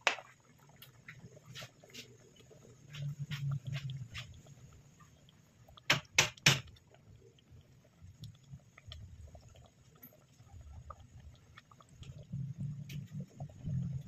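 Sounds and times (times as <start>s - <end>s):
sauce bubbling in pot: 0.0s - 14.0s.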